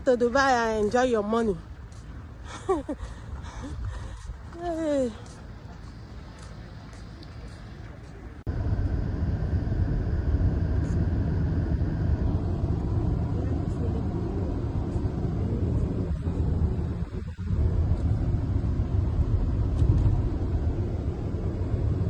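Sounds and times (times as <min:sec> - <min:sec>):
car interior rumble: 0:02.7 - 0:22.0.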